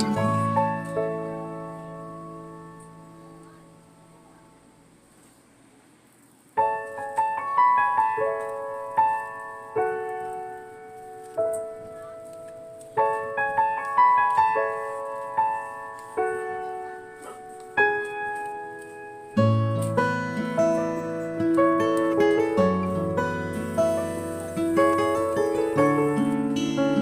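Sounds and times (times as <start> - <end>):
gentle piano melody: 0.0 - 5.4, 6.5 - 27.0.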